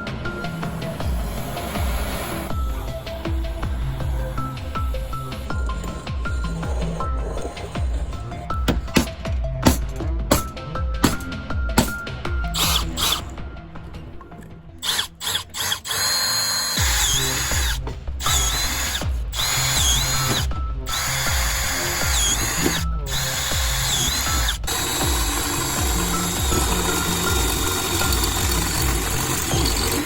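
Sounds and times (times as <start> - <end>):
power drill whining: 0.0 - 9.2, 12.5 - 13.3, 14.8 - 30.0
background music with beat: 0.0 - 30.0.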